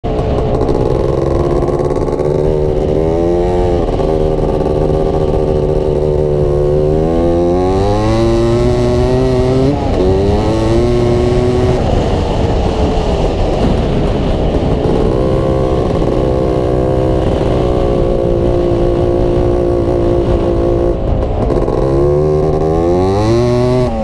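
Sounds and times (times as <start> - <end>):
off-road vehicle engine revving: 0.4 - 12.0, 14.8 - 24.0.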